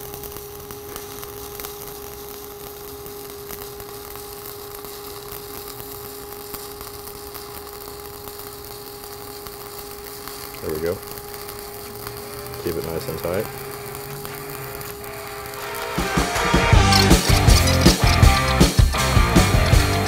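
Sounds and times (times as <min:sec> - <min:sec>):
welding arc crackling and popping: 0:00.0 - 0:20.0.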